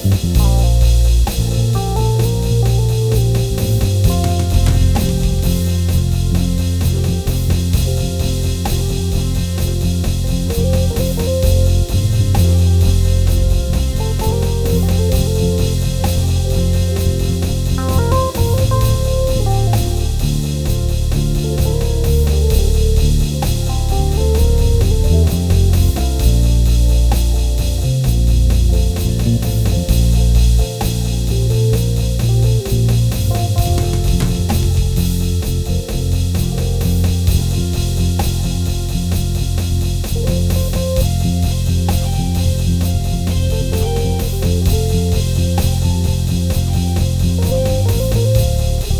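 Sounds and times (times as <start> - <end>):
drum kit groove: 0.0 - 48.9
heavy bass line: 0.0 - 48.9
keyboard chords: 0.0 - 48.9.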